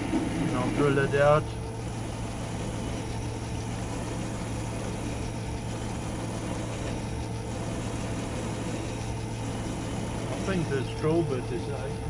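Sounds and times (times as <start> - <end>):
metal lathe motor hum: 0.0 - 12.0.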